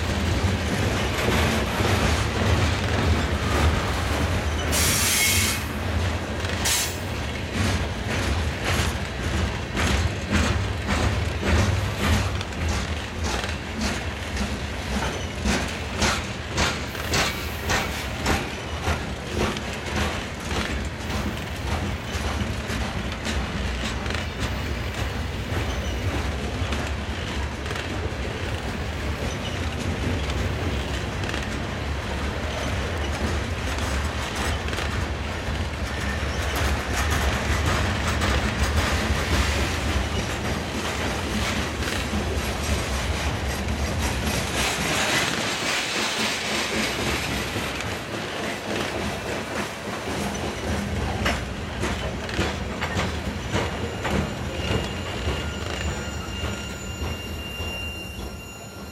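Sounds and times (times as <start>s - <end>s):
freight train rumble: 0.0s - 58.9s
train wheels clicking over rail joints: 0.0s - 58.9s.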